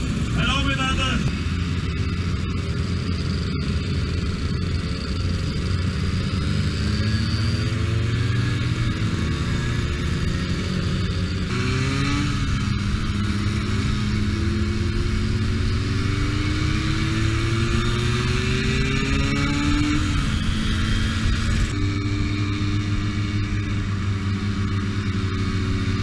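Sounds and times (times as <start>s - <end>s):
moped two-stroke engine running: 0.0s - 26.0s.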